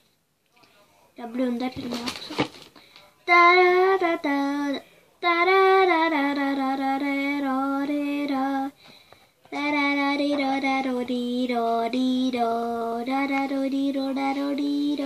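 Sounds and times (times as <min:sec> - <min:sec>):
girl singing unaccompanied: 0:01.2 - 0:02.5, 0:03.2 - 0:08.8, 0:09.5 - 0:15.0.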